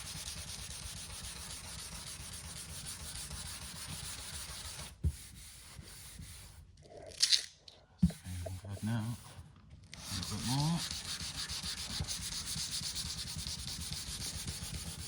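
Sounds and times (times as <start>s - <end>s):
sandpaper rubbing: 0.0s - 6.6s, 8.2s - 9.4s, 10.0s - 15.0s.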